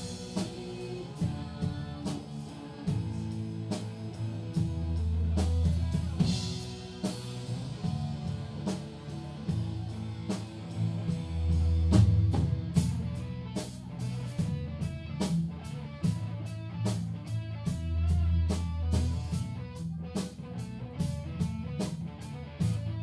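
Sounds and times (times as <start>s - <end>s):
drum and cymbal hits: 0.0s - 23.0s
live band music: 0.0s - 23.0s.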